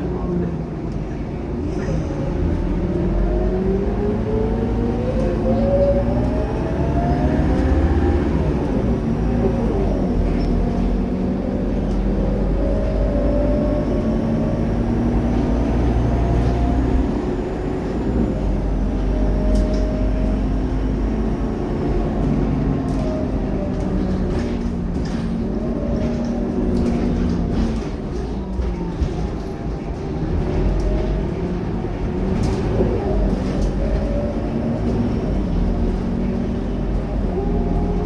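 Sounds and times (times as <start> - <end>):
bus diesel engine rumble: 0.0 - 38.0.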